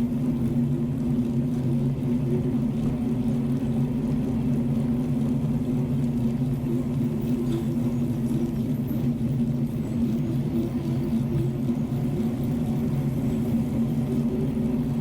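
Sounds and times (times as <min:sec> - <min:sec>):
bicycle rolling on paved road: 0:00.0 - 0:15.0.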